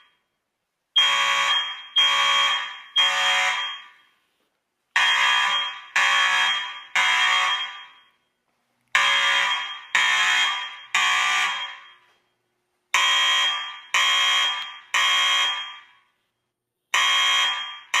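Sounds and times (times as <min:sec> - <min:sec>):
fire alarm ringing: 0:00.0 - 0:08.4, 0:09.0 - 0:16.2, 0:16.9 - 0:18.0.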